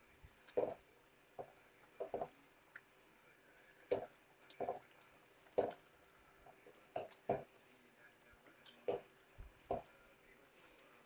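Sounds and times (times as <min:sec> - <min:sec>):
gravy simmering: 0:00.0 - 0:11.0.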